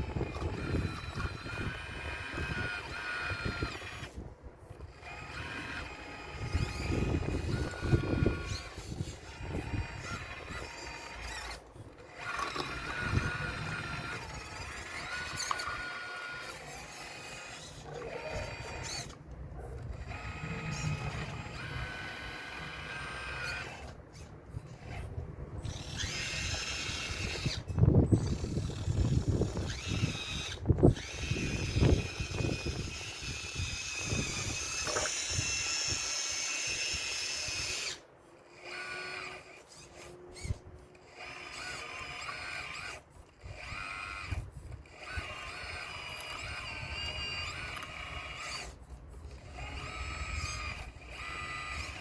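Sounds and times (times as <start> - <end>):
model excavator motors whining: 0.0 - 52.0.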